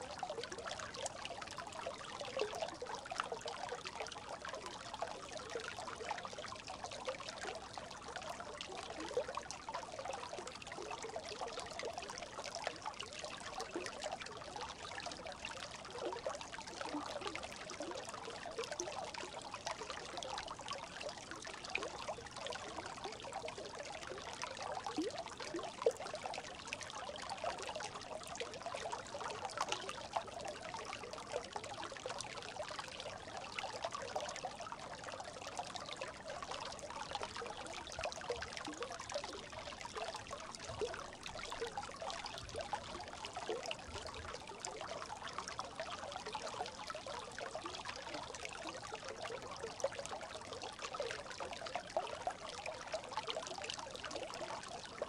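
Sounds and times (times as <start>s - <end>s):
brook babbling: 0.0s - 55.0s.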